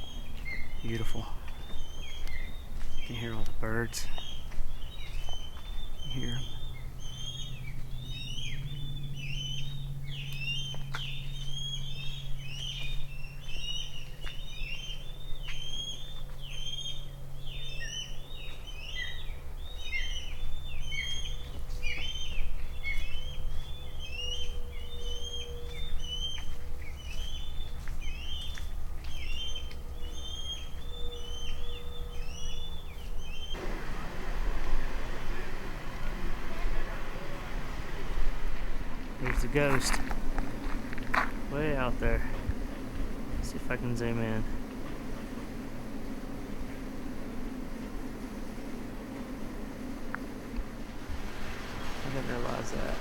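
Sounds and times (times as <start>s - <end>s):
flock of birds chirping: 0.0s - 53.0s
steady low hum: 0.0s - 53.0s.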